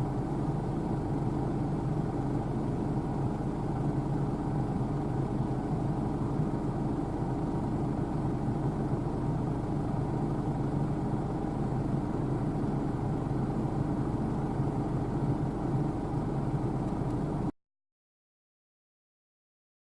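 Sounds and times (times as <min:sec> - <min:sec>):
combine harvester engine drone: 0:00.0 - 0:17.5.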